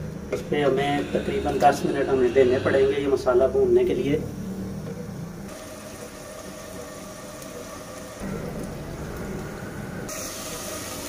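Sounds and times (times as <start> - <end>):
masala sizzling in a pot: 0.0 - 11.0.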